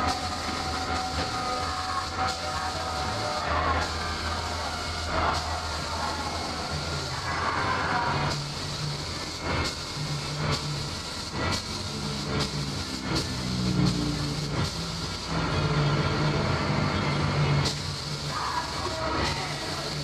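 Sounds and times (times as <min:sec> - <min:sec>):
spray gun hissing: 0:00.0 - 0:20.0.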